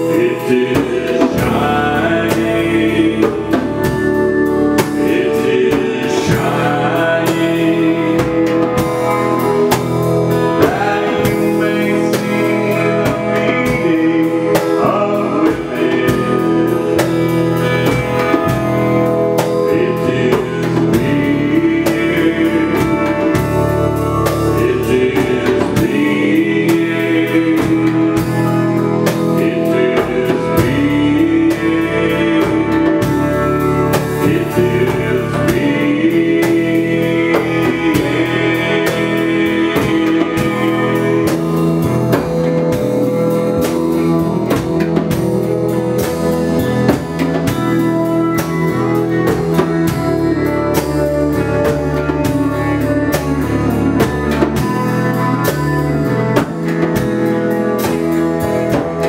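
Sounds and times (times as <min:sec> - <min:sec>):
electric guitar: 0:00.0 - 0:59.0
hand drums: 0:00.0 - 0:59.0
keyboard: 0:00.0 - 0:59.0.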